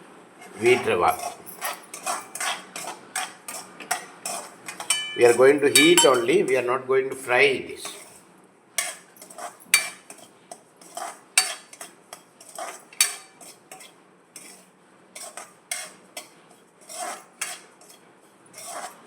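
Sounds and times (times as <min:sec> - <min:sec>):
utensil scraping a pan: 0:00.4 - 0:06.6, 0:07.8 - 0:08.2, 0:08.8 - 0:19.0.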